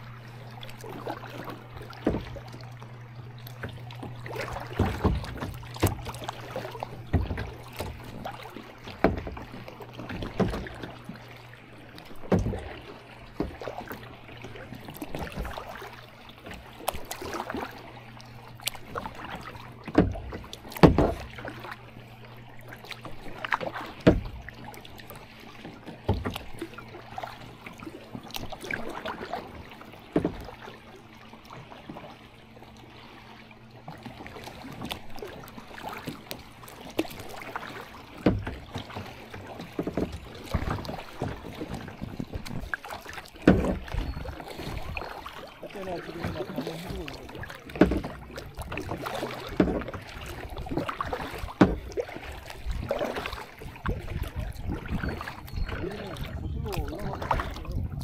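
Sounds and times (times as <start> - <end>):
paddle splashing water: 0.0 - 58.0
paddle knocks: 0.7 - 30.8, 33.8 - 58.0.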